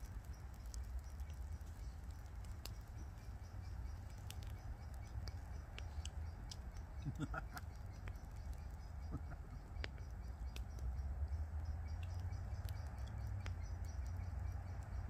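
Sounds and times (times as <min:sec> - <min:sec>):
light ticks and crackles: 0:00.0 - 0:15.0.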